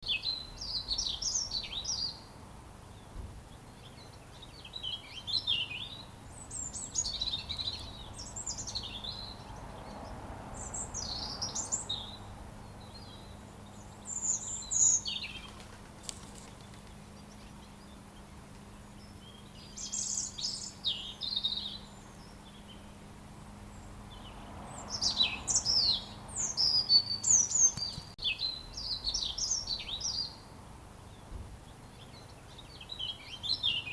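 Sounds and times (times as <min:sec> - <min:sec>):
robin singing: 0:00.0 - 0:33.9.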